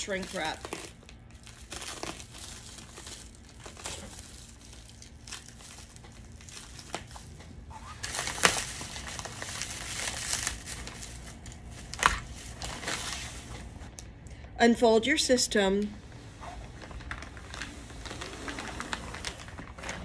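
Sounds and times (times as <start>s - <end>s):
plastic shrink wrap crinkling: 0.0s - 14.0s, 16.4s - 20.0s.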